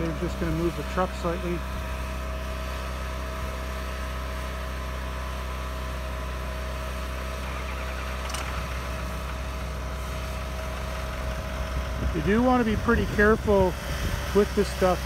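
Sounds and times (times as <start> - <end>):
engine idling drone: 0.0 - 15.0
steady whine: 0.0 - 15.0.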